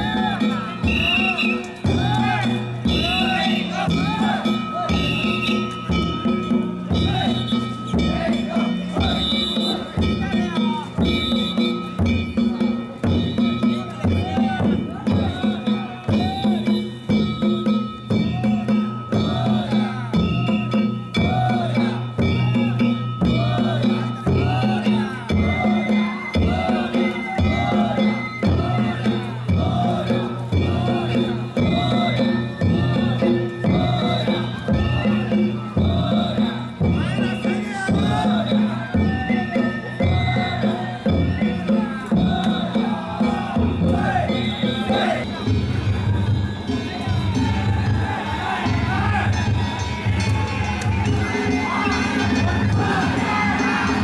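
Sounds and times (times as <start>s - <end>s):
taiko drums beating: 0.0s - 54.0s.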